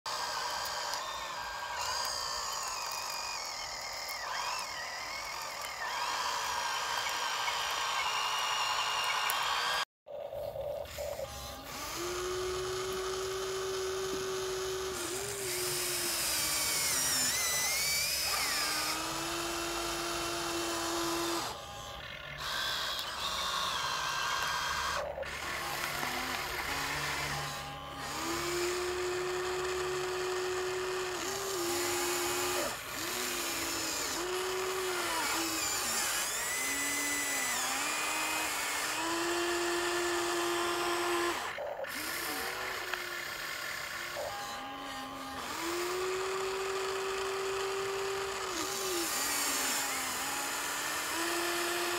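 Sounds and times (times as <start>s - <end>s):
toy excavator electric motors whining: 0.1s - 9.9s, 10.5s - 51.9s.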